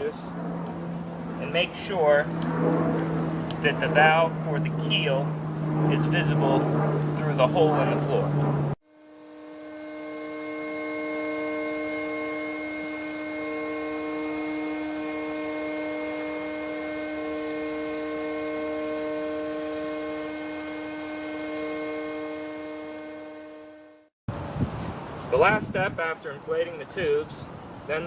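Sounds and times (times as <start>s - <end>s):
electric air pump humming: 0.0s - 25.0s.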